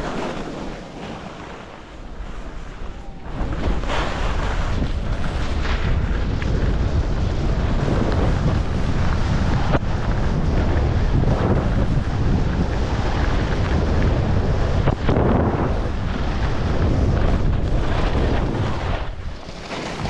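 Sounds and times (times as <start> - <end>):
skis scraping on hard snow: 0.0 - 20.0
wind buffeting microphone: 0.0 - 20.0.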